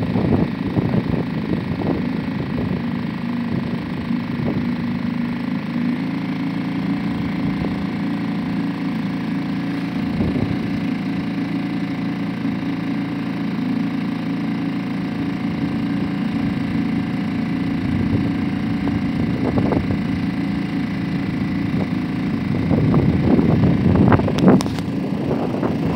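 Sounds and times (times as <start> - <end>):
outboard motor running: 0.0 - 25.9.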